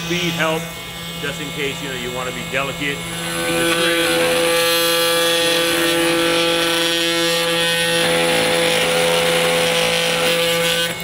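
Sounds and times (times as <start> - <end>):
oscillating multi-tool cutting wood: 0.0 - 11.0.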